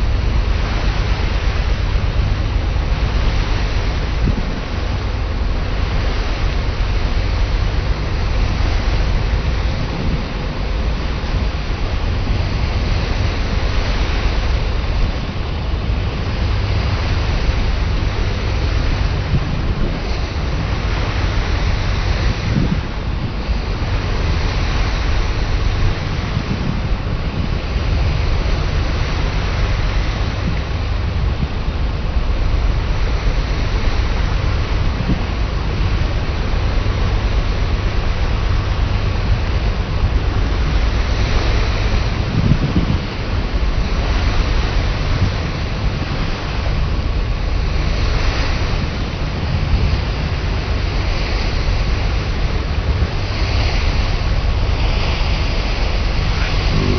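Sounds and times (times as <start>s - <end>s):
rushing water: 0.0s - 56.9s
wind buffeting microphone: 0.0s - 56.9s.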